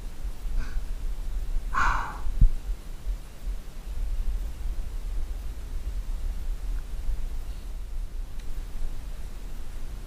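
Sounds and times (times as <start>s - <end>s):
faint hiss: 0.0s - 10.0s
wind buffeting microphone: 0.0s - 10.0s.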